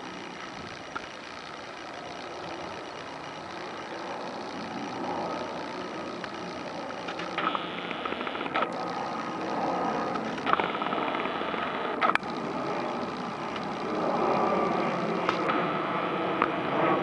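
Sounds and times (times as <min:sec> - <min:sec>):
distant engine rumble: 0:00.0 - 0:17.0.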